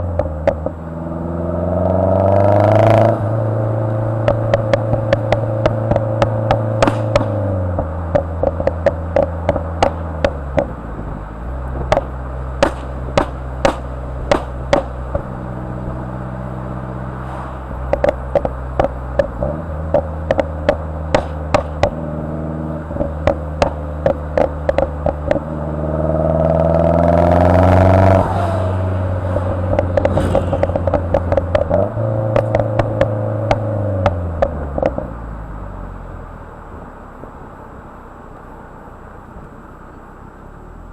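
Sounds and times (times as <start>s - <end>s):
car engine with exhaust crackles: 0.0s - 40.9s.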